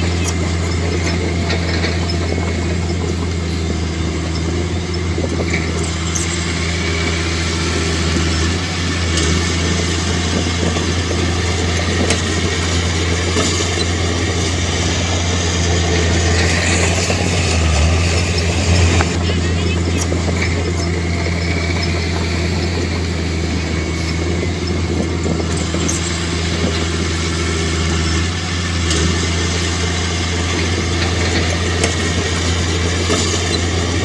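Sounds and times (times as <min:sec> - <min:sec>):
heavy diesel engine droning: 0:00.0 - 0:34.0.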